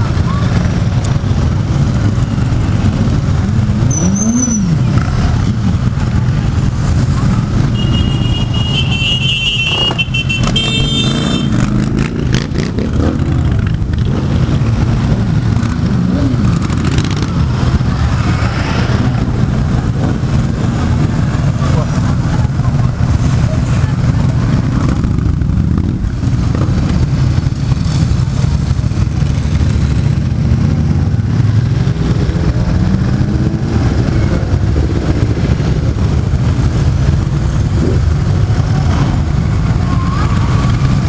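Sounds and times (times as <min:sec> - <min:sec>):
motorcycle engines rumbling: 0:00.0 - 0:41.0
motorcycle revving: 0:00.0 - 0:41.0.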